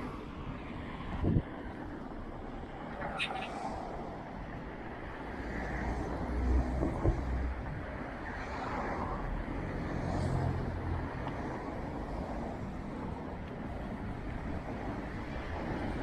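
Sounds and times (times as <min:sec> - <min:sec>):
road and tyre noise: 0:00.0 - 0:16.0
vehicles passing: 0:00.0 - 0:16.0.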